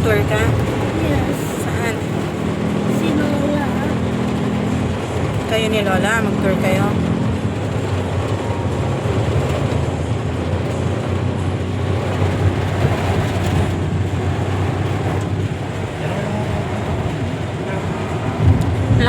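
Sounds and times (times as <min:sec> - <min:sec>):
low road rumble: 0:00.0 - 0:19.0
rain hissing on car: 0:00.0 - 0:19.0.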